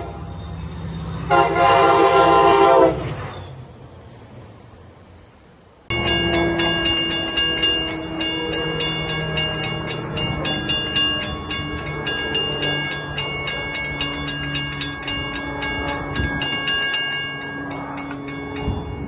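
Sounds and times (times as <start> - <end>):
railway warning bell ringing: 0.0 - 3.6, 5.9 - 19.0
train humming: 0.0 - 19.0.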